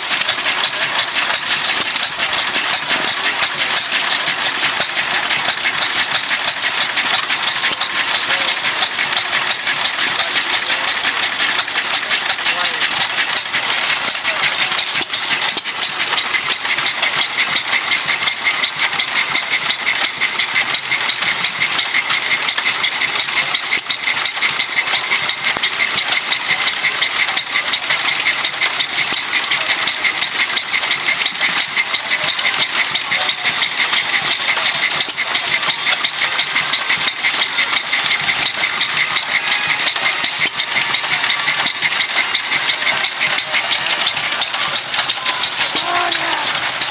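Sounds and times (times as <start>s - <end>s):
stationary gas engine clattering: 0.0s - 46.9s.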